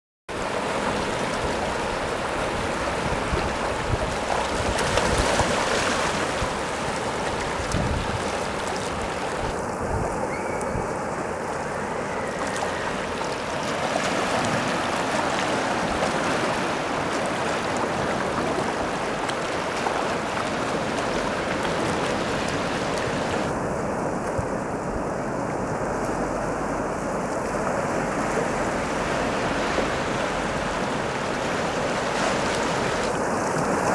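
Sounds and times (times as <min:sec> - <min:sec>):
seawater washing over rocks: 0:00.3 - 0:33.9.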